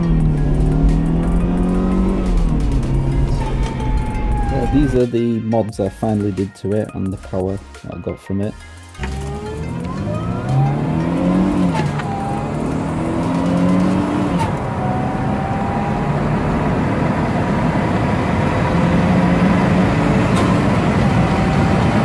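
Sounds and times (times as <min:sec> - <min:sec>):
car engine accelerating hard: 0:00.0 - 0:05.0, 0:09.0 - 0:22.0
supercharger whine: 0:00.0 - 0:05.0, 0:09.0 - 0:22.0.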